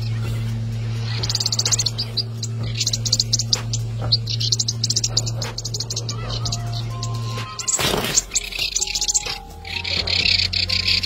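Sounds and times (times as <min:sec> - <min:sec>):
high-pitched chirping trills: 0:00.0 - 0:11.0
steady low hum: 0:00.0 - 0:11.0.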